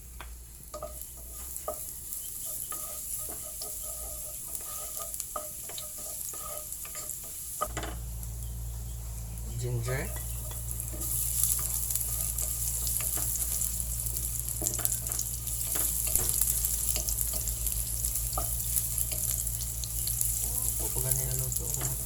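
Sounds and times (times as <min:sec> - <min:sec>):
garlic sizzling in oil: 0:00.0 - 0:22.0.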